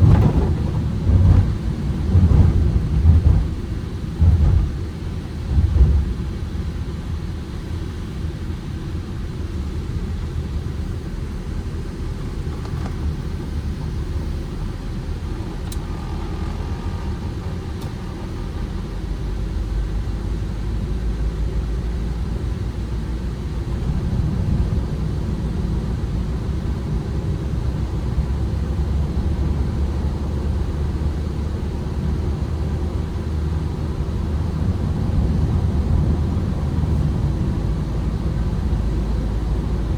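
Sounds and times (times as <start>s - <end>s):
van engine and tyre rumble: 0.0s - 39.9s.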